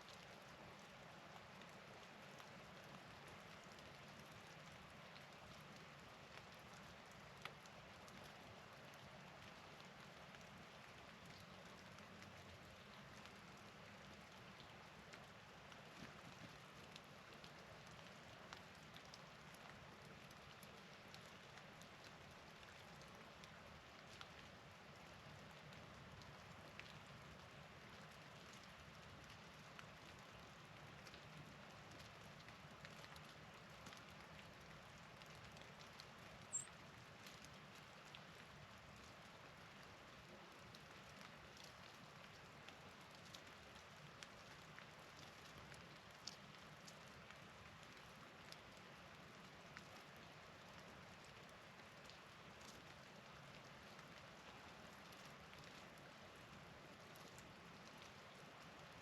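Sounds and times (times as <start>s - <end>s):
faint outdoor hiss: 0.0s - 59.0s
ticks of falling precipitation: 0.0s - 59.0s.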